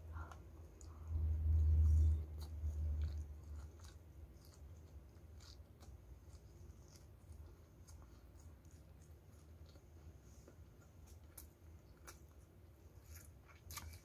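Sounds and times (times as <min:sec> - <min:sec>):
close chewing and mouth clicks: 0:00.0 - 0:14.0.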